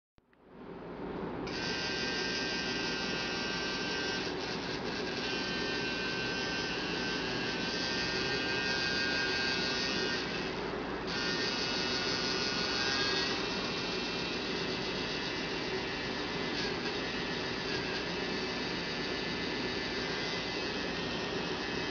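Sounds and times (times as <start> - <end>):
tattoo machine buzzing: 1.5 - 21.9.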